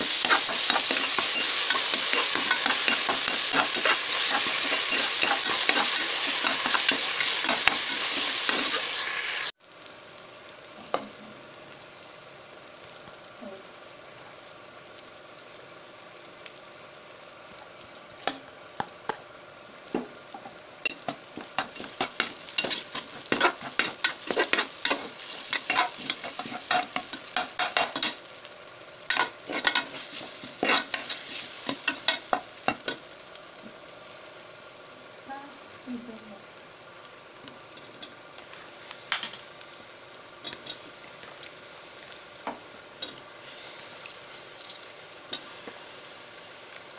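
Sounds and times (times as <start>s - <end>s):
onions and tomatoes sizzling in oil: 0.0s - 46.9s.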